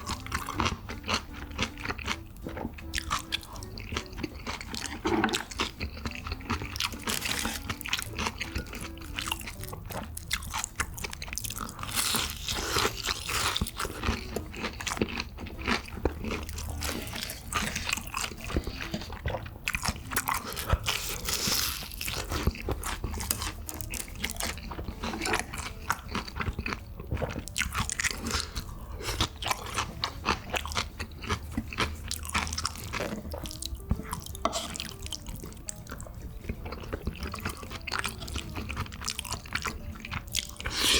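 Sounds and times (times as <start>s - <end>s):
person chewing and crunching food: 0.0s - 40.9s.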